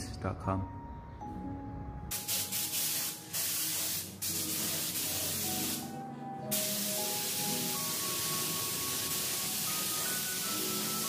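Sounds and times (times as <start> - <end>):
background music: 0.0 - 11.0
spray gun hissing: 2.1 - 11.0.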